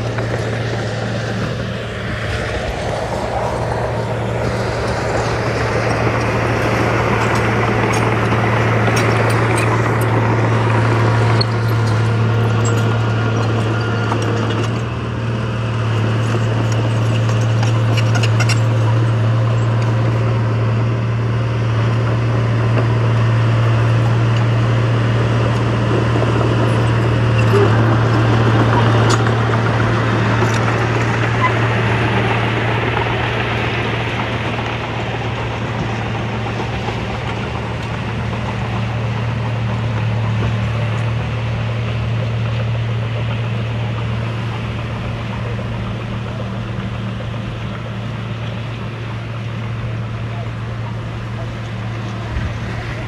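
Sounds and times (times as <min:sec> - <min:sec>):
diesel engine humming: 0:00.0 - 0:53.0.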